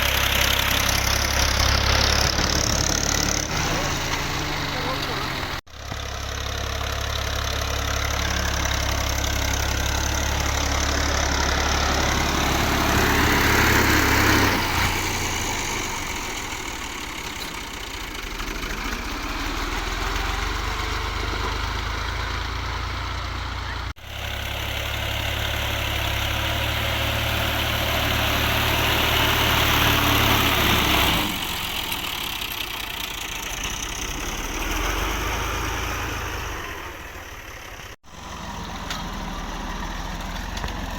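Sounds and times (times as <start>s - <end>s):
tractor diesel engine droning: 0.0s - 40.9s.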